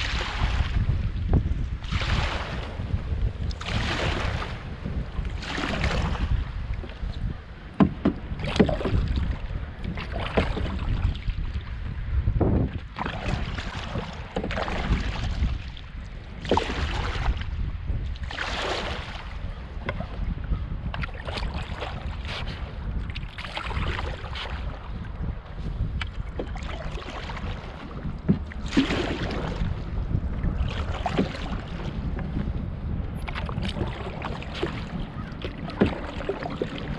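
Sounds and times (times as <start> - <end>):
paddle splashing water: 0.0 - 36.9
wind on microphone: 0.0 - 36.9.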